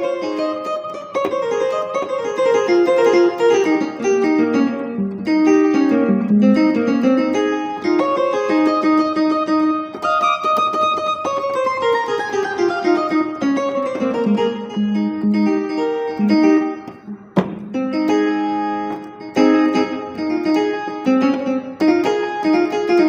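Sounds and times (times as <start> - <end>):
keyboard playing plucked lead melody: 0.0 - 23.0.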